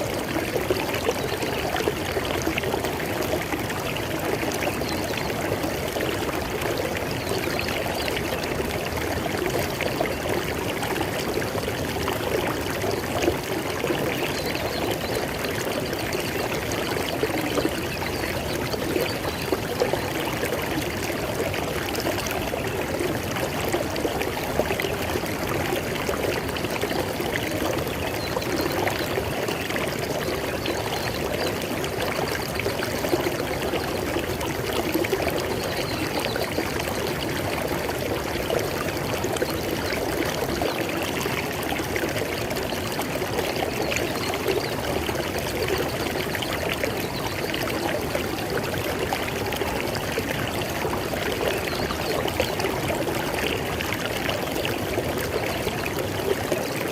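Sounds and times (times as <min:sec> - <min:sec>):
river water flowing over rocks: 0:00.0 - 0:56.9.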